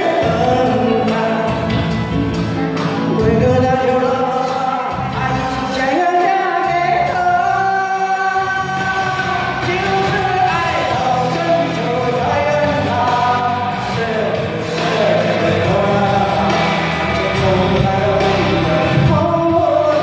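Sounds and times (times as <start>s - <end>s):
backing track over speakers: 0.0s - 20.0s
woman singing pop ballad: 0.0s - 20.0s.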